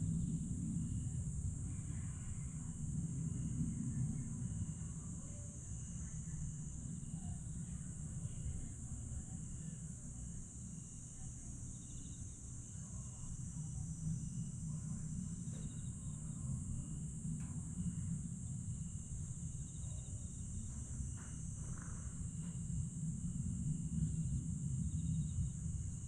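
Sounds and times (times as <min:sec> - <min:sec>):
crickets trilling: 0:00.0 - 0:26.0
faint insect chirps: 0:00.0 - 0:26.0.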